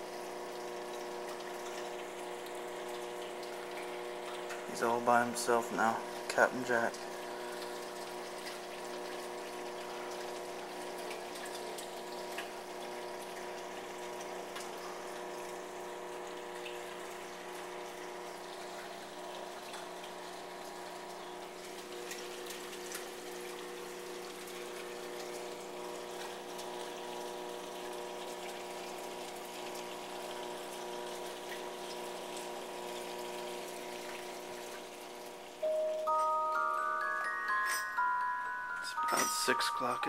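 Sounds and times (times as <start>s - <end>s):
water pump hum: 0.0s - 40.0s.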